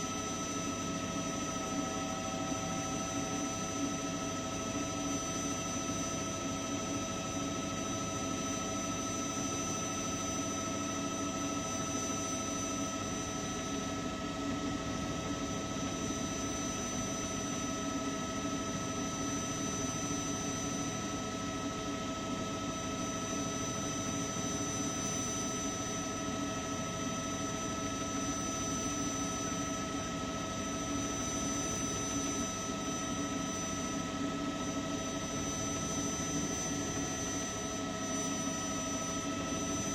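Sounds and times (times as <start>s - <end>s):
helicopter turbine and rotors: 0.0s - 39.9s.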